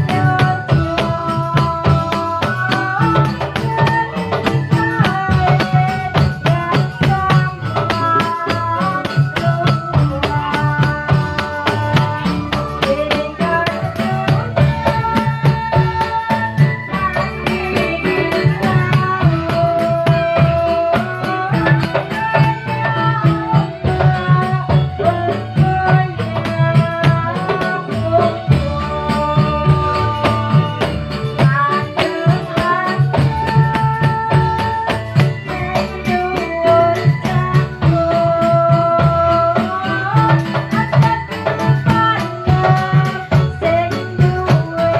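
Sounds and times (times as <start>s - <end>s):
hand drums beating: 0.0s - 44.9s.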